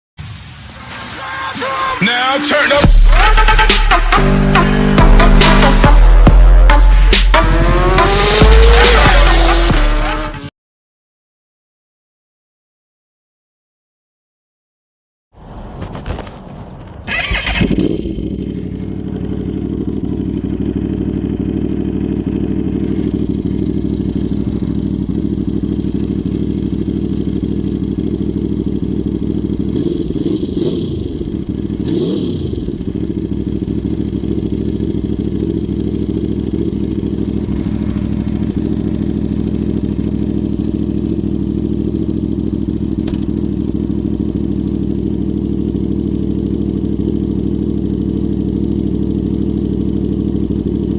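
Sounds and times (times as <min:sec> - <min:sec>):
engine throttle blips: 0:02.5 - 0:10.4, 0:15.4 - 0:50.9
motorcycle engine starting and idling: 0:02.8 - 0:10.1, 0:15.4 - 0:50.9.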